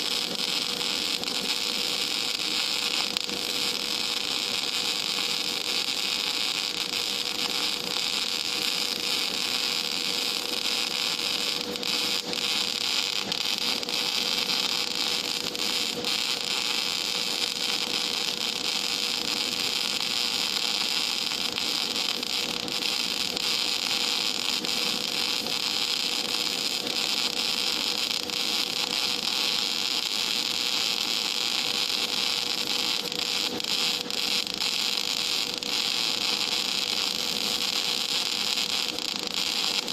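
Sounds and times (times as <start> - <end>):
welding arc hissing and crackling: 0.0 - 39.9.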